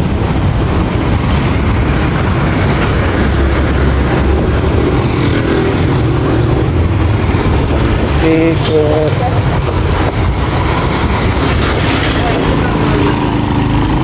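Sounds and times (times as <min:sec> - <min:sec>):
moving vehicle rumble: 0:00.0 - 0:14.0
road and wind noise: 0:00.0 - 0:14.0.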